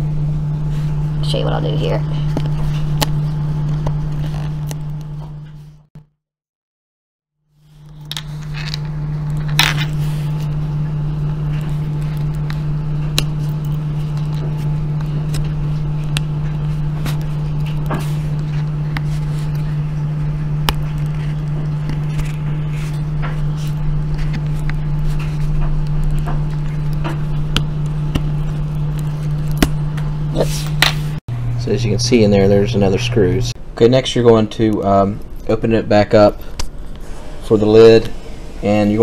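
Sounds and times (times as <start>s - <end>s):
steady low hum: 0.0s - 5.9s, 7.6s - 39.0s.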